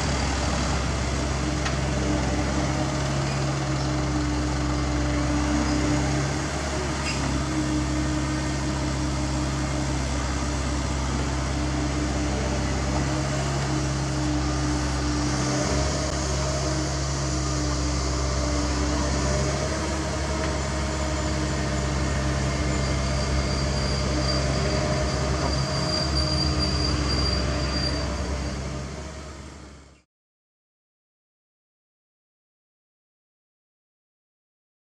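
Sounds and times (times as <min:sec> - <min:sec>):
diesel engine running: 0:00.0 - 0:30.0
hydraulic whine: 0:00.0 - 0:30.0.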